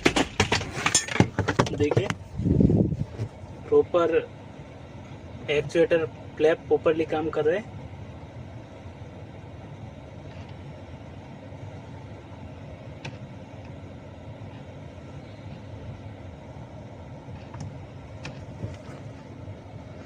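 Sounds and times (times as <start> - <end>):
ac blower hum: 0.0 - 20.0.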